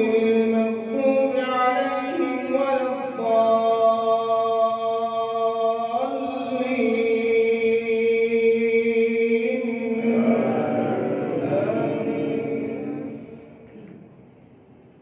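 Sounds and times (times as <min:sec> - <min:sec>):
solo voice chanting recitation: 0:00.0 - 0:13.4.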